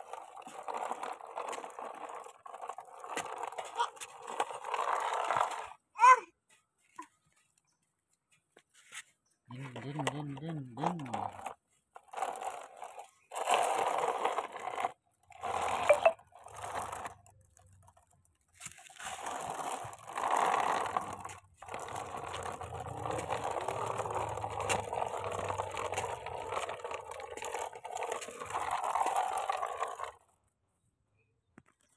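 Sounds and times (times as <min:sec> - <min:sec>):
toy truck wheels scraping concrete: 0:00.0 - 0:06.2, 0:08.8 - 0:30.6.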